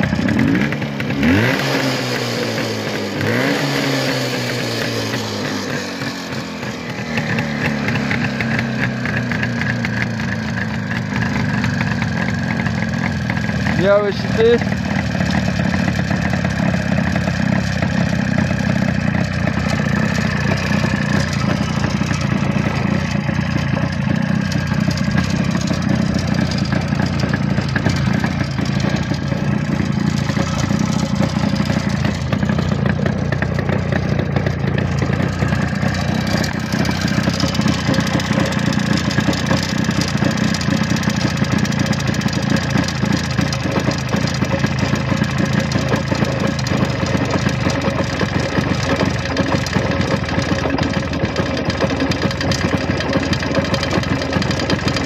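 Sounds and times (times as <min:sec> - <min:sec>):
two-stroke engine idling: 0:00.0 - 0:55.0.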